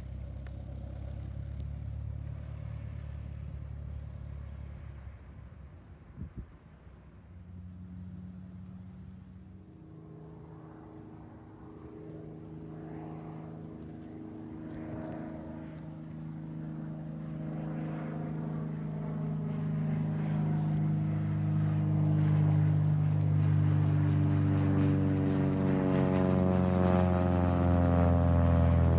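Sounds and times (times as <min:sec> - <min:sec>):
propeller airplane engine droning: 0:00.0 - 0:28.9.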